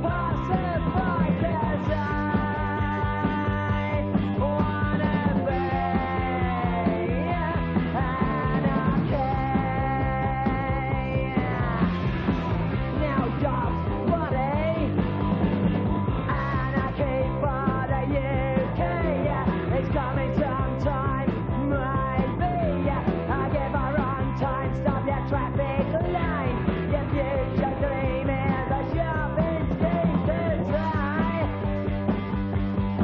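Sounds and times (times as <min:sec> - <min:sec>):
shouted lead vocal: 0:00.0 - 0:15.2, 0:16.0 - 0:31.8
punk rock band playing: 0:00.0 - 0:33.0.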